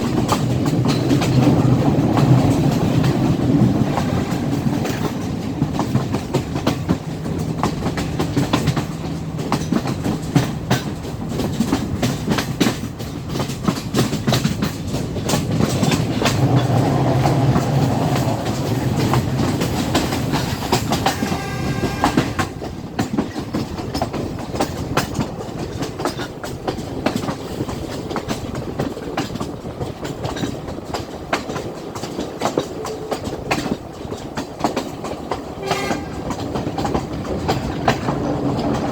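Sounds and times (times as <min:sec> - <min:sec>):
train rumble: 0:00.0 - 0:38.9
train wheels clattering over joints: 0:00.0 - 0:38.9.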